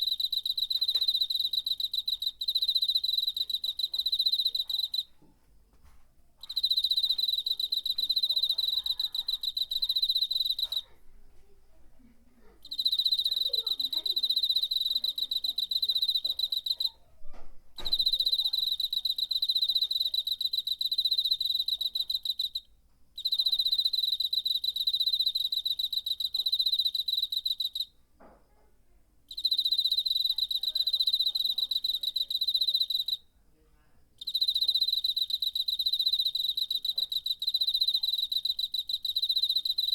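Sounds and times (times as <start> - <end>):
cricket trilling: 0.0 - 5.1, 6.4 - 10.9, 12.6 - 17.0, 17.8 - 27.9, 29.3 - 33.2, 34.2 - 39.9.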